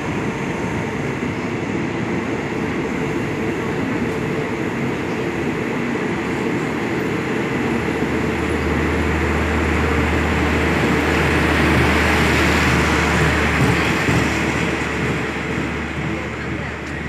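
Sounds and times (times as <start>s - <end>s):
train carriages rolling past: 0.0s - 17.0s.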